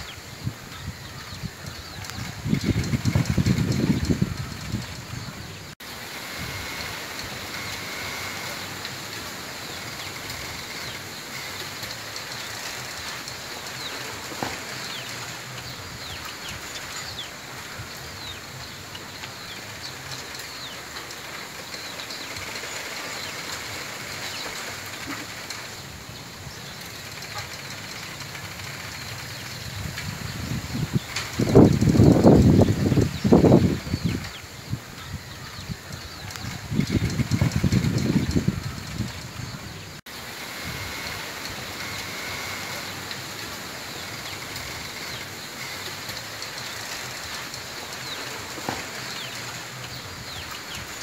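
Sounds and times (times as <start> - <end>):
bamboo leaves rustling in wind: 0.0 - 51.0
high squeaks from stems: 0.0 - 51.0.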